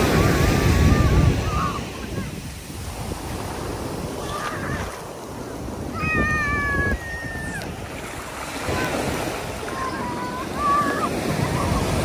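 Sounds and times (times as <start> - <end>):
ocean surf washing on beach: 0.0 - 12.0.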